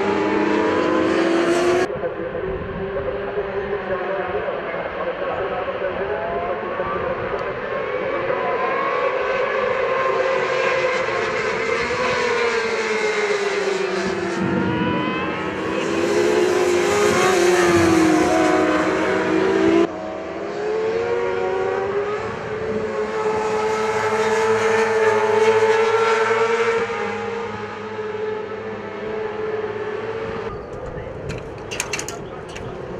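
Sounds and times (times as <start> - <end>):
racing motorcycles passing: 0.0 - 3.9, 7.7 - 32.9.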